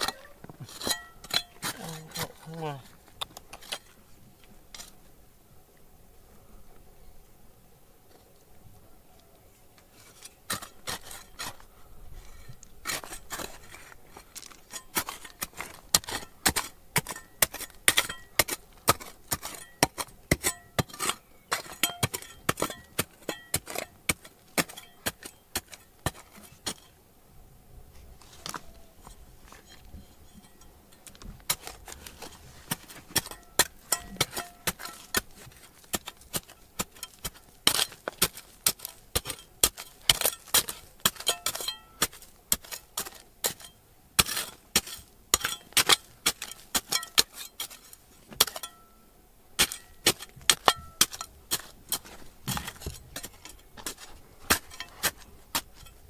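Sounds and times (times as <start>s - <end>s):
hard objects clinking and scraping: 0.0s - 4.0s, 9.9s - 27.0s, 28.3s - 48.9s, 49.6s - 56.0s.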